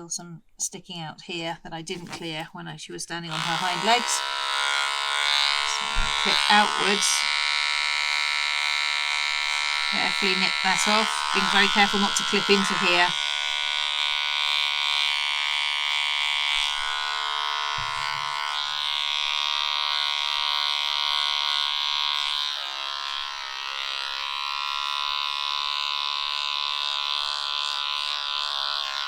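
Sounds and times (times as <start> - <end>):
electric clippers buzzing: 1.9 - 2.4, 3.3 - 29.0.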